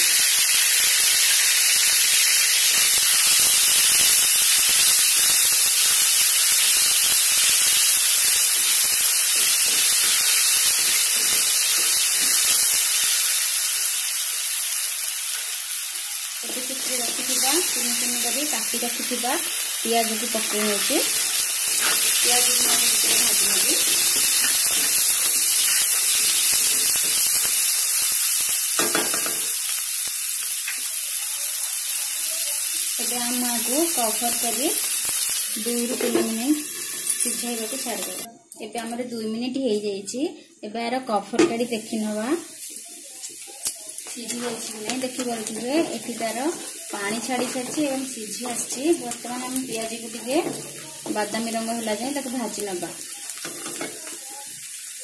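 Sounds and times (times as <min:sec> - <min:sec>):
lentils sizzling in oil: 0:00.0 - 0:39.9, 0:41.0 - 0:55.0.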